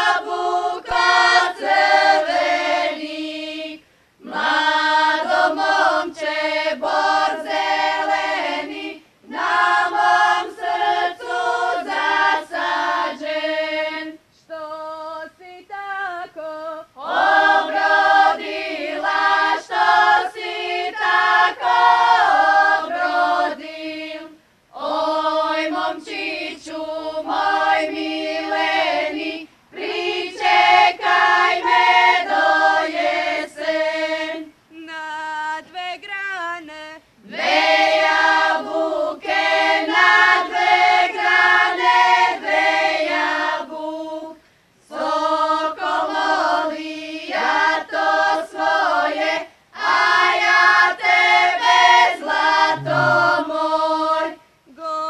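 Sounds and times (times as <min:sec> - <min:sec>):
group singing unaccompanied: 0:00.0 - 0:55.0.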